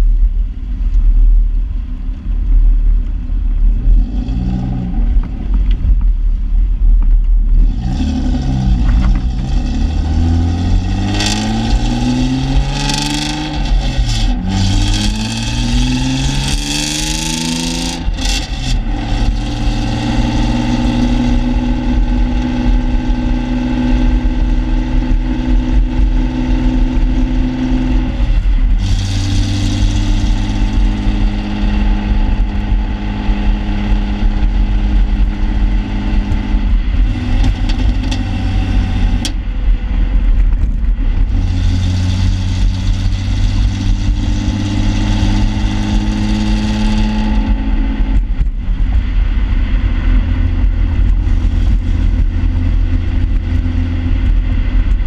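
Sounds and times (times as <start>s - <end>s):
car exhaust revving: 0.0s - 55.0s.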